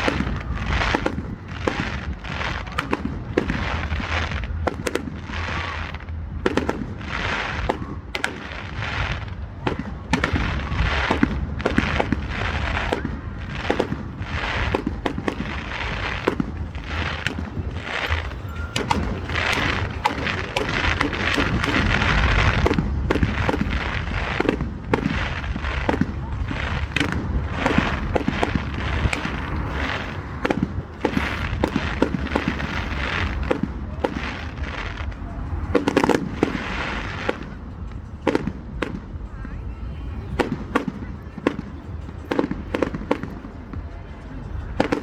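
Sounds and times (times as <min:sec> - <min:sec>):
fireworks bangs and pops: 0:00.0 - 0:45.0
fireworks crackling: 0:00.0 - 0:45.0.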